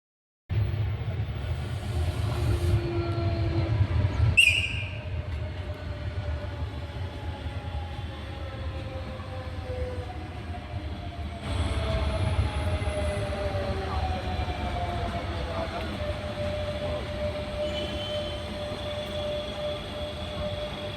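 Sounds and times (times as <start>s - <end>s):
electric train rumbling: 0.5s - 20.9s.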